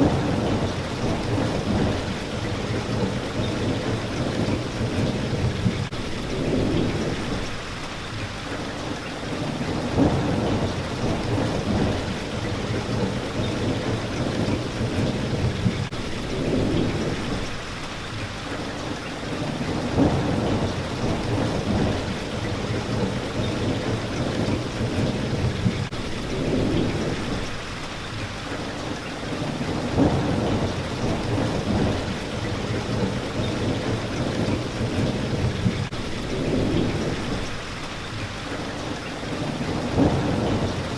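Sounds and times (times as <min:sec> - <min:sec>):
rain hitting a window: 0:00.0 - 0:40.9.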